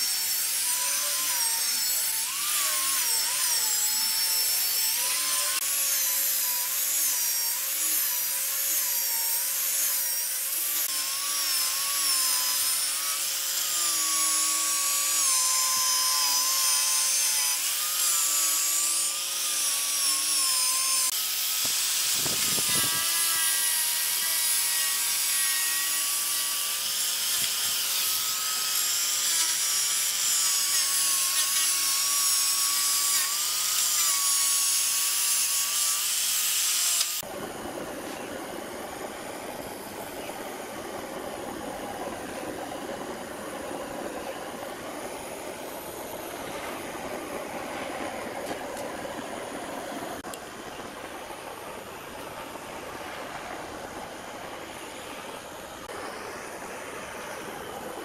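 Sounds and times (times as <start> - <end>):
angle grinder sanding wood: 0.0 - 50.4.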